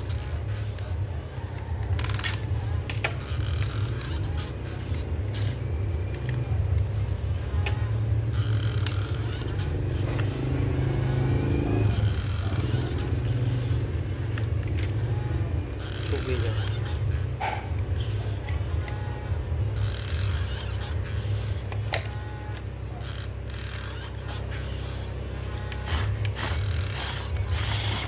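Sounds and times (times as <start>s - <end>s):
excavator motor running: 0.0s - 28.0s
rising whine under load: 0.0s - 28.0s.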